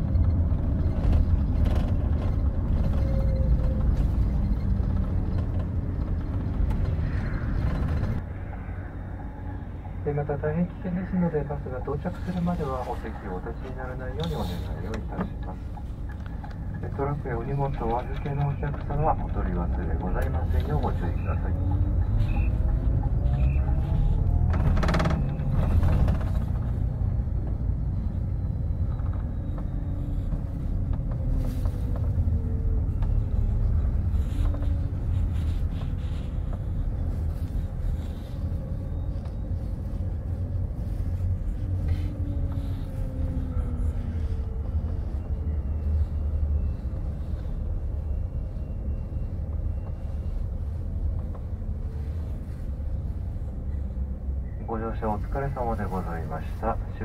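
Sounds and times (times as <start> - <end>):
coach engine and road rumble: 0.0 - 57.0.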